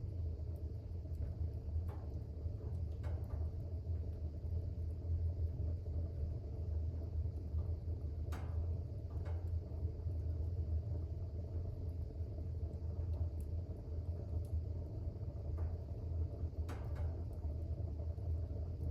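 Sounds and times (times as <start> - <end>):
fire crackles: 0.0 - 18.9
fire flames rumbling: 0.0 - 18.9.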